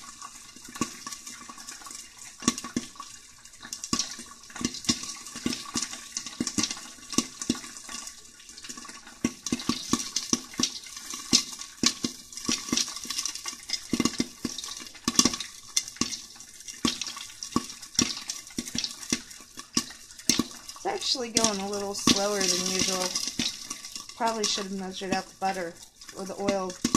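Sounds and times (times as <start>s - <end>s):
popcorn popping: 0.0s - 3.1s, 3.7s - 26.9s
oil sizzling: 0.0s - 26.9s.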